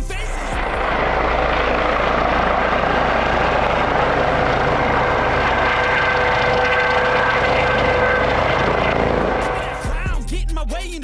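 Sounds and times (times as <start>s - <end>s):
high engine whine: 0.0s - 10.4s
aircraft engine rush: 0.5s - 10.2s.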